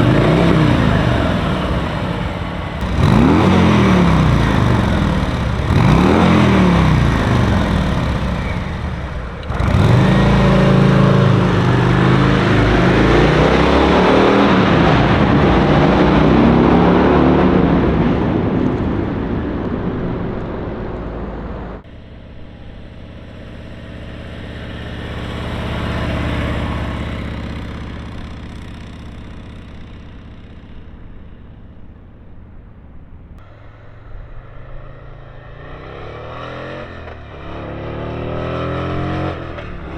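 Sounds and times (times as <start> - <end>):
motorcycle engine flyby: 0.0 - 39.9.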